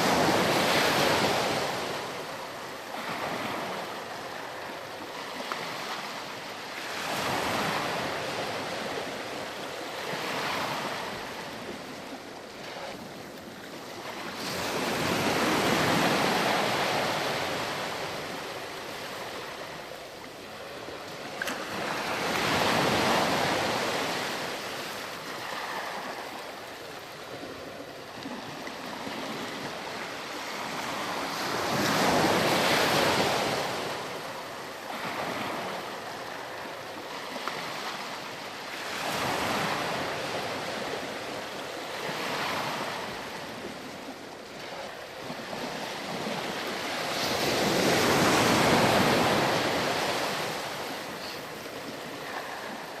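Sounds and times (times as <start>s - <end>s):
ocean surf breaking on shore: 0.0s - 53.0s.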